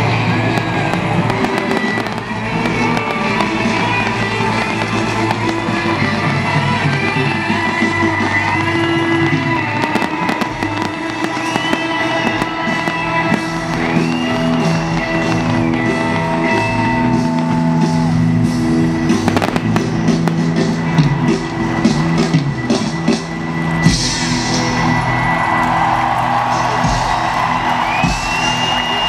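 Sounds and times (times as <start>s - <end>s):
fireworks popping and banging: 0.0s - 24.2s
loud rock music: 0.0s - 29.0s.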